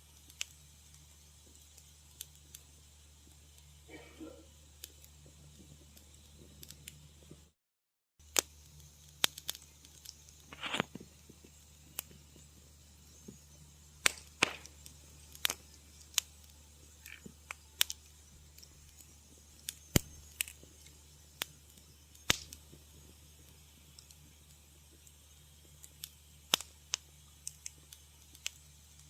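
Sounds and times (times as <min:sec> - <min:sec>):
low steady hum: 0:00.0 - 0:07.6, 0:08.2 - 0:29.0
wood fire crackling: 0:00.0 - 0:07.6, 0:08.2 - 0:29.0.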